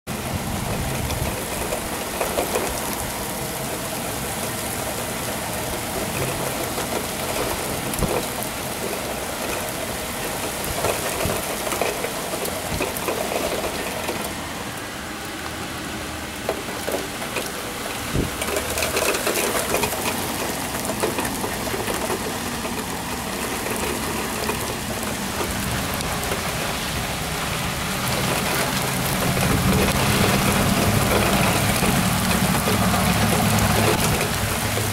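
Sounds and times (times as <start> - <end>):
rain pouring on pavement: 0.1 - 34.9.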